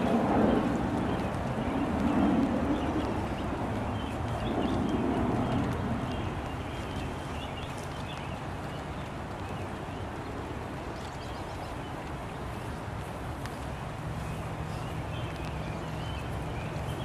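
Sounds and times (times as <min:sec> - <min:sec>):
light rain: 0:00.0 - 0:17.0.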